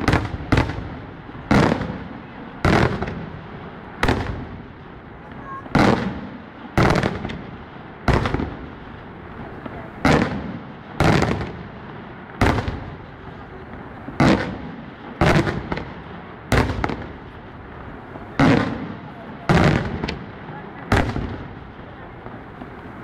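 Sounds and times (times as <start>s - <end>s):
fireworks exploding with bangs: 0.0s - 23.0s.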